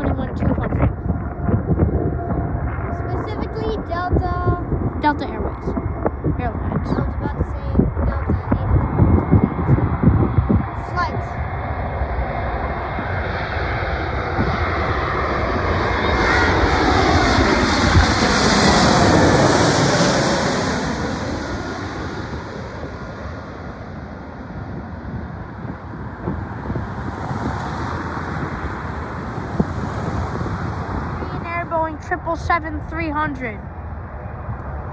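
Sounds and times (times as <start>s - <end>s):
jet engines passing close: 0.0s - 34.9s.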